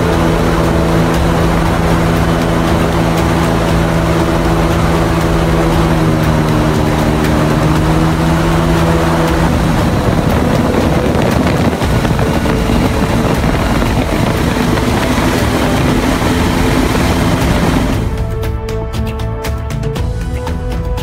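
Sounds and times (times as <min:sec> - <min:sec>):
airboat engine and propeller drone: 0:00.0 - 0:21.0.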